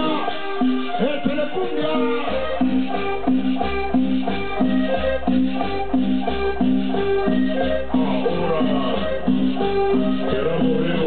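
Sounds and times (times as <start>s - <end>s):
accordion cumbia music: 0.0s - 11.0s
deep bass beat: 0.0s - 11.0s.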